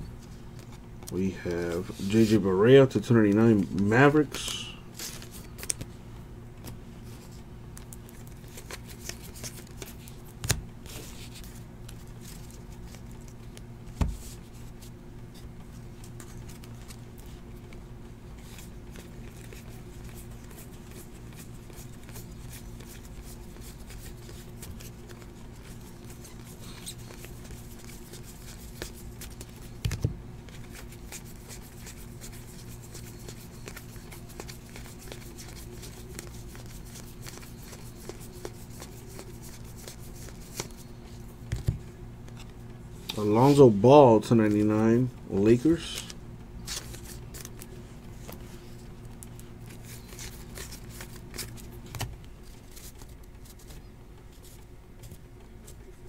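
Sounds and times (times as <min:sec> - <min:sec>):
low electrical hum: 0:00.0 - 0:56.0
trading cards flipped by hand: 0:03.2 - 0:05.9, 0:06.6 - 0:17.8, 0:18.4 - 0:43.6, 0:45.4 - 0:53.8.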